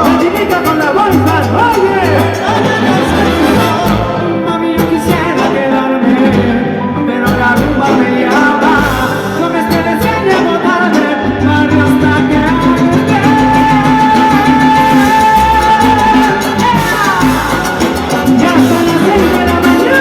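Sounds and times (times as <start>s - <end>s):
salsa band playing live: 0.0s - 20.0s.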